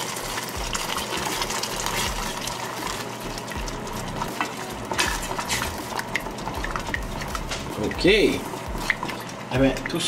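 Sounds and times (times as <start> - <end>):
spoon stirring thick sauce: 0.4 - 10.0.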